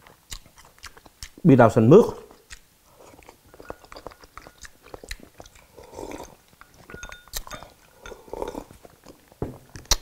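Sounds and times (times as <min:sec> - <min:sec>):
person chewing with wet mouth clicks: 0:00.0 - 0:01.4, 0:02.3 - 0:10.0.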